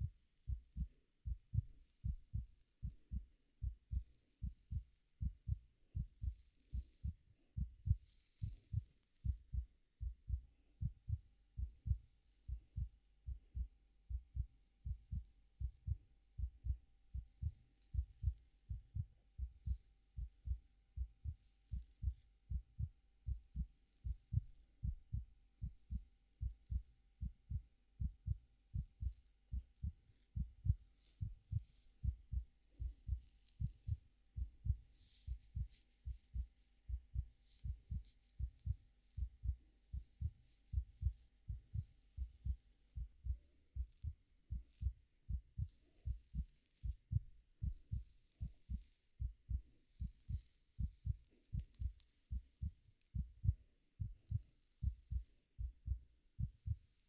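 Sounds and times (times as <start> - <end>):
heartbeat thumping: 0.0 - 56.9.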